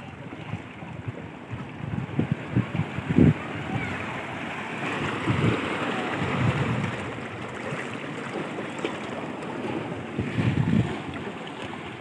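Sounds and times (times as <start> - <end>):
waves washing over rocks: 0.0 - 12.0
wind buffeting microphone: 0.0 - 12.0.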